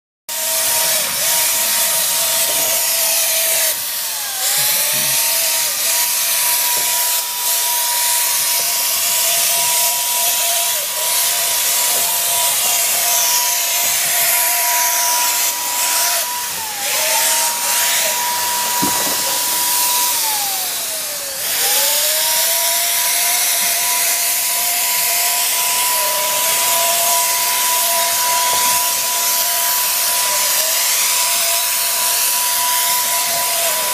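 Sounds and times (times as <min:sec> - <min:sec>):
paint sprayer turbine whine: 0:00.3 - 0:33.9.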